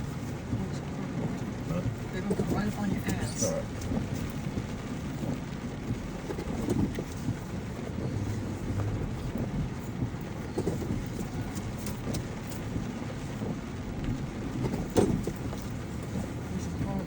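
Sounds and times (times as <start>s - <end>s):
light rattles: 0.0s - 17.0s
vehicle road rumble: 0.0s - 17.0s.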